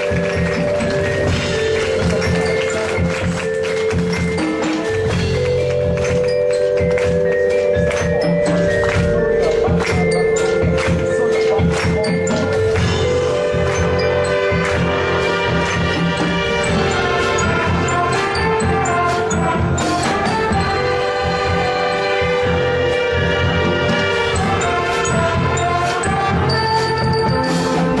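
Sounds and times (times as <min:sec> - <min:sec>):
ringtone music: 0:00.0 - 0:28.0.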